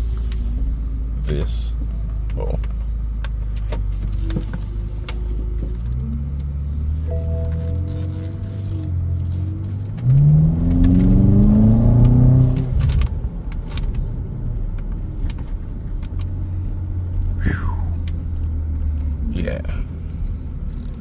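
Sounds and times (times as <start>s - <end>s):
car engine rumbling: 0.0s - 21.0s
car engine revving: 3.6s - 21.0s.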